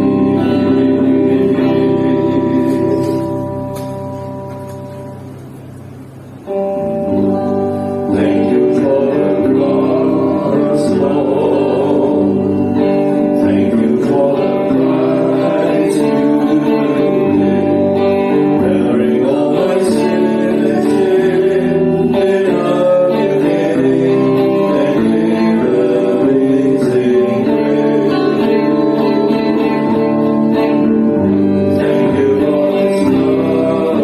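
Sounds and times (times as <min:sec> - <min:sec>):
person singing: 0:00.0 - 0:03.8, 0:07.2 - 0:34.0
worship band with guitar: 0:00.0 - 0:34.0.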